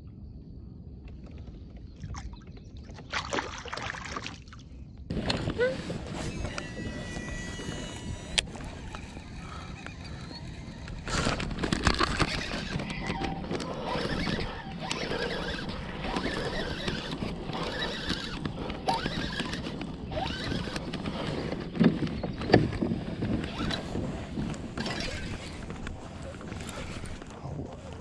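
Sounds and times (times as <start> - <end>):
water lapping around kayak hull: 2.0 - 4.8, 5.4 - 28.0.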